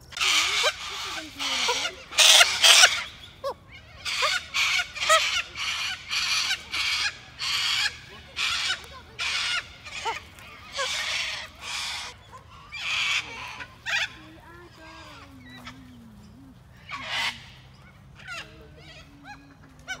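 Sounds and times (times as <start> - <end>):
cockatoos screeching: 0.0 - 16.0, 16.7 - 20.0.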